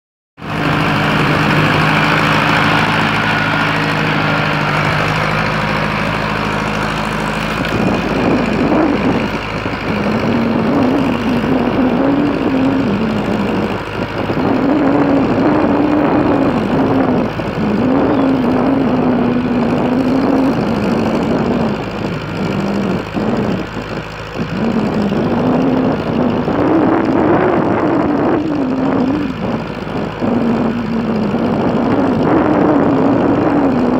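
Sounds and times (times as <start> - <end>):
tractor engine labouring: 0.4 - 33.9.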